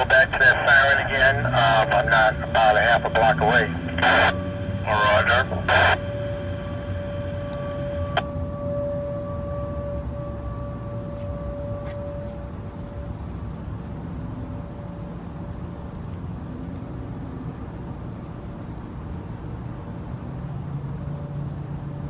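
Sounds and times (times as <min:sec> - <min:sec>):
engine-like hum: 0:00.0 - 0:22.0
faint steady tone: 0:00.0 - 0:22.0
low rumble of street traffic: 0:00.0 - 0:22.0.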